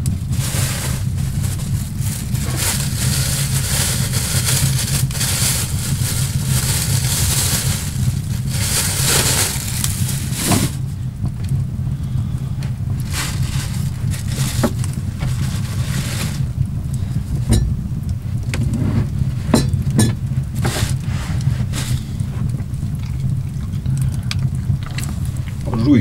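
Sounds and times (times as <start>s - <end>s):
gusting snowstorm wind: 0.0s - 26.0s.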